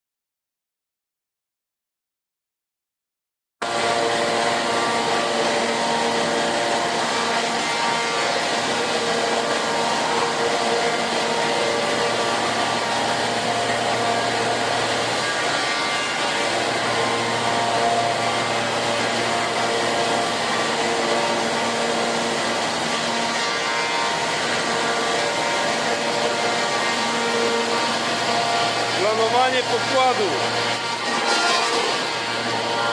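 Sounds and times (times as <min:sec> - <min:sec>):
router machine whirring: 0:03.6 - 0:32.9.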